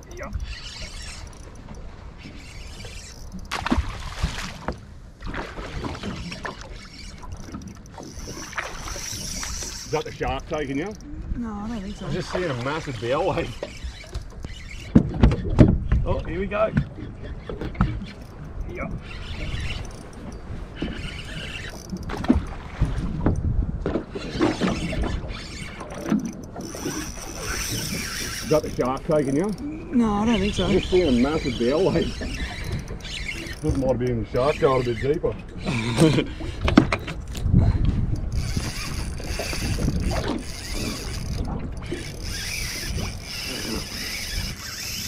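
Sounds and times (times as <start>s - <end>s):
fishing reel clicking and hissing: 0.0s - 3.5s, 6.0s - 11.2s, 11.9s - 15.0s, 16.4s - 22.2s, 24.2s - 37.4s, 38.0s - 45.0s
wind buffeting microphone: 7.2s - 45.0s.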